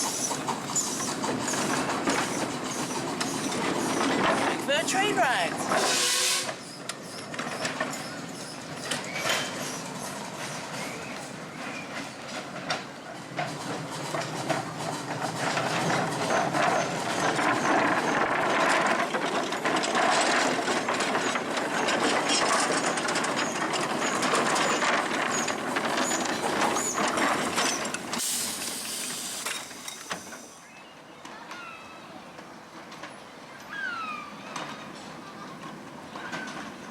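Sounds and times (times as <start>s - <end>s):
wheels clicking over rail joints: 0.0s - 30.6s, 31.2s - 36.9s
miniature train rumbling: 0.0s - 36.9s.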